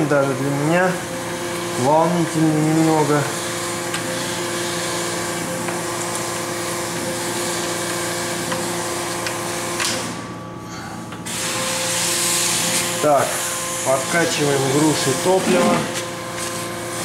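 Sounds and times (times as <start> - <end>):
motor hum with whine: 0.0 - 17.0.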